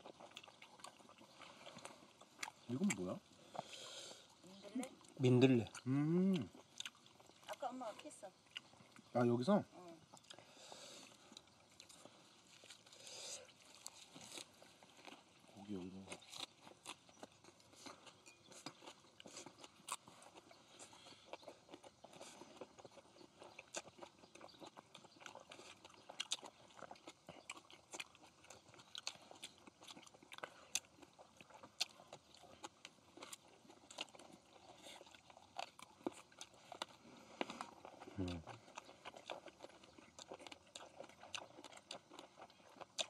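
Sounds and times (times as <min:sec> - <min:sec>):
people chewing and crunching: 0:00.0 - 0:43.0.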